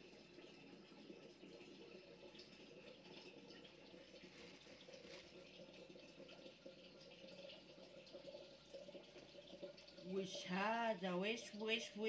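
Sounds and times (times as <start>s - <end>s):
water trickling from tap into sink: 0.0s - 12.0s.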